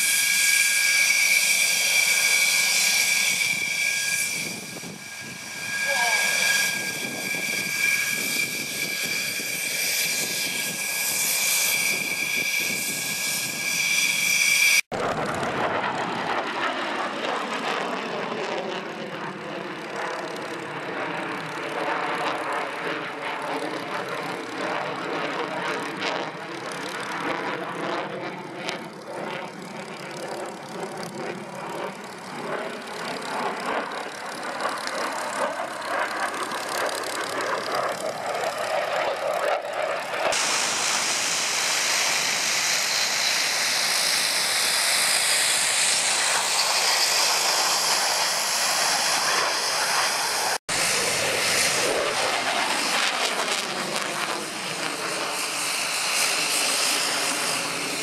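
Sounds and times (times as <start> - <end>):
high whine gliding in pitch: 0.0 - 16.5, 27.3 - 58.0
jet fighter engines: 0.0 - 58.0
turboprop engines and propellers: 0.0 - 58.0.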